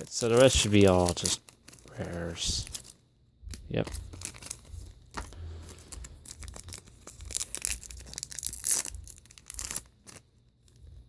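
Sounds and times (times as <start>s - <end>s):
wrappers torn and crinkled: 0.0s - 3.0s, 3.7s - 10.8s.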